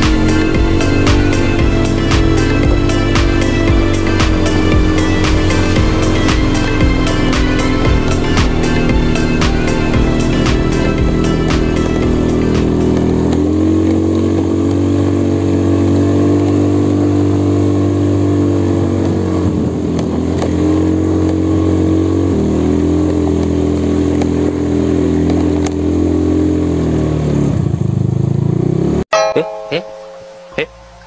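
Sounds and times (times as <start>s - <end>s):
motorcycle engine running: 0.0s - 29.6s.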